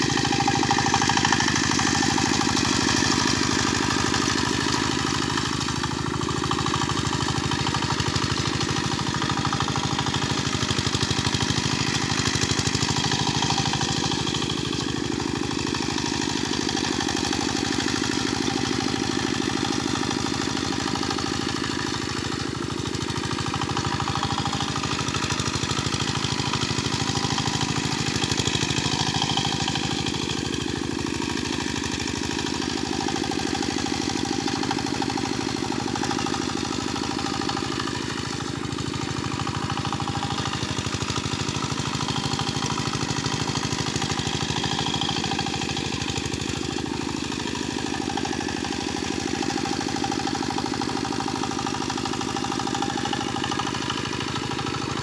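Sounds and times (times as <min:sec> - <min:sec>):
small tractor engine chugging: 0:00.0 - 0:55.0.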